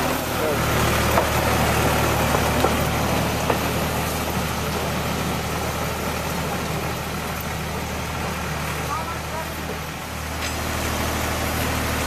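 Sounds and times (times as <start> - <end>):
machine engine running: 0.0 - 12.0.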